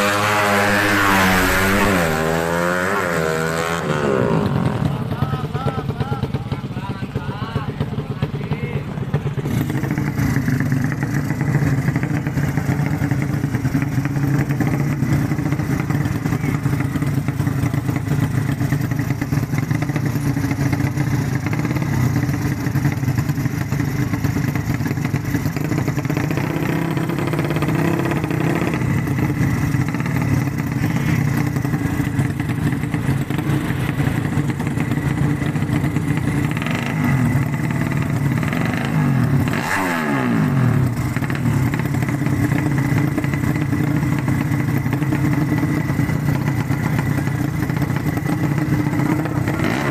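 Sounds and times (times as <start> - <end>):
motorcycle engine running loud: 0.0 - 49.9.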